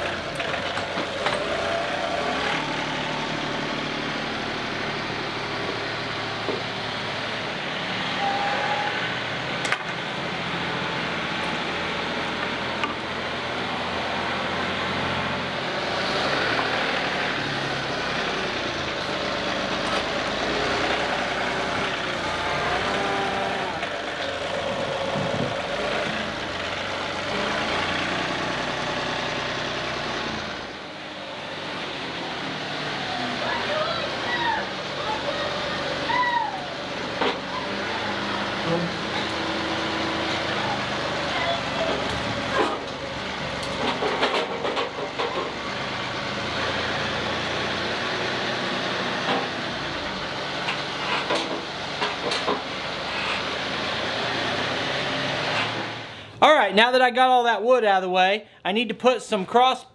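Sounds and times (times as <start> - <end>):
tractor diesel engine running: 0.0 - 57.5.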